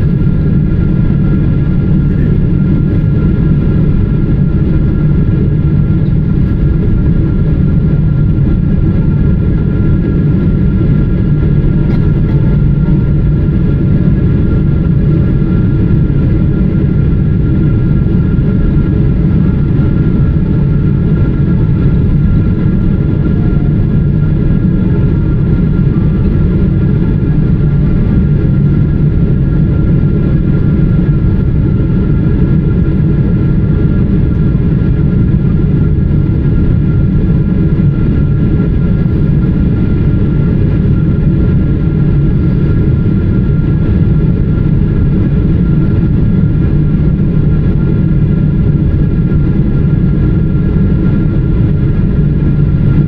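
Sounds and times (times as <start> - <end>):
airliner cabin roar: 0.0 - 53.0.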